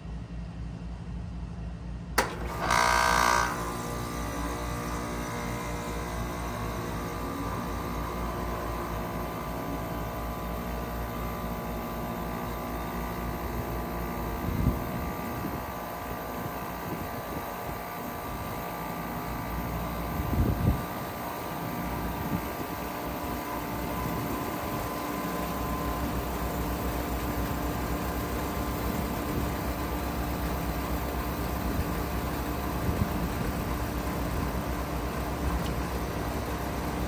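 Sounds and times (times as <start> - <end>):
heat pump humming: 2.1 - 37.0.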